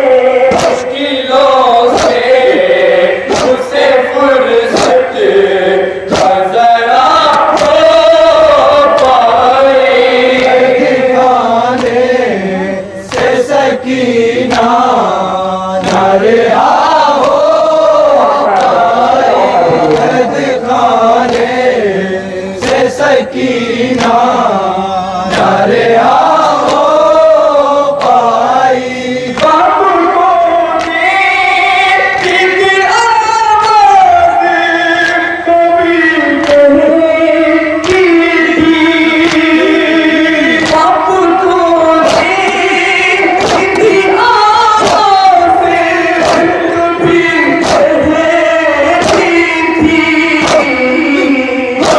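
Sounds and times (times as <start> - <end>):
men chanting a lament: 0.0 - 51.9
rhythmic chest-beating: 0.0 - 51.9.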